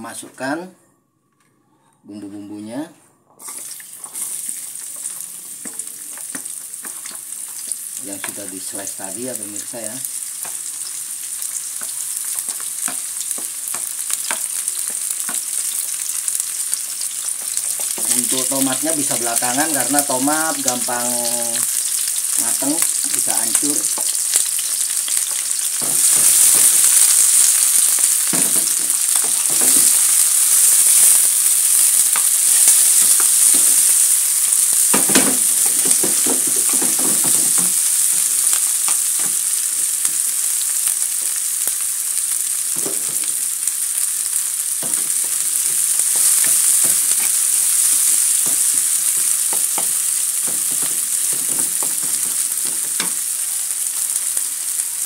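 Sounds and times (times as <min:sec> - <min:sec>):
aromatics sizzling in hot oil: 0:03.4 - 0:55.0.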